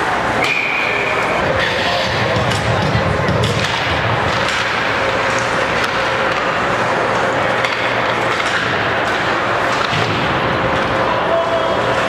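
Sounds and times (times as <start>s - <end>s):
stick and puck clacks: 1.4s - 11.1s.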